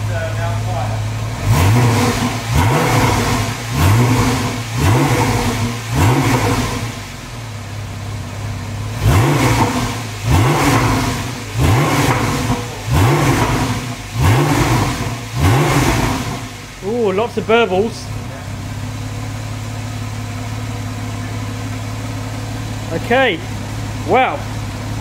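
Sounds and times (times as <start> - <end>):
car engine idling: 0.0 - 25.0
car engine revving: 0.0 - 25.0.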